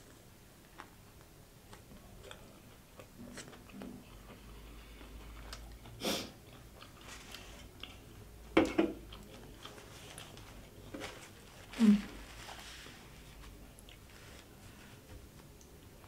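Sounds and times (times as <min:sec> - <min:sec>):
chewing sandwich: 0:00.6 - 0:15.9.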